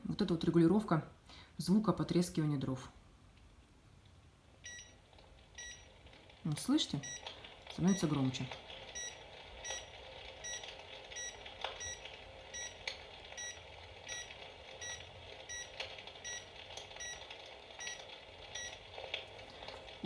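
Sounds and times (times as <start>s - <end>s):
simulated wood crackling: 3.2s - 20.0s.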